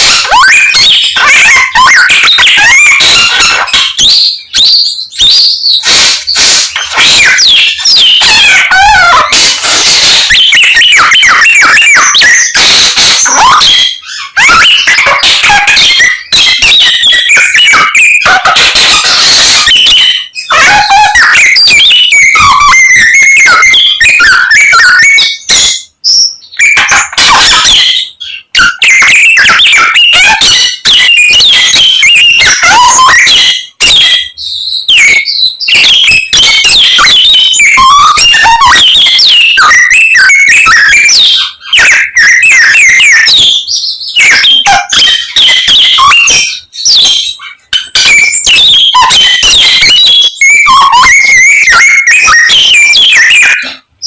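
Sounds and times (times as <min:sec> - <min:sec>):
songbird singing whistles and trills: 0:00.0 - 0:54.0.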